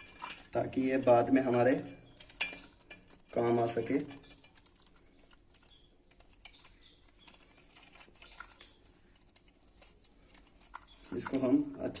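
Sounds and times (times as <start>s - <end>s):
wires and plastic box being handled: 0.0s - 12.0s.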